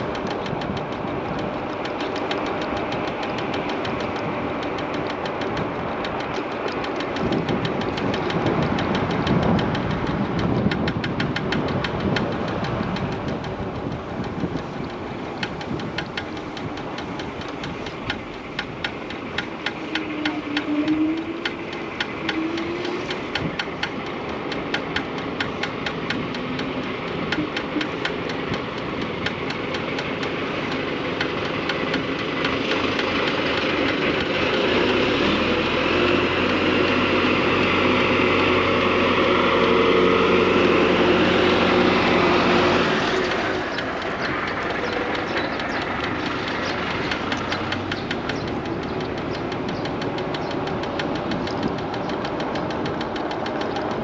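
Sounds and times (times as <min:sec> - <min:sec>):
fast regular ticking: 0:00.0 - 0:54.0
heavy vehicle passing: 0:00.0 - 0:54.0
road and wind noise: 0:00.0 - 0:54.0.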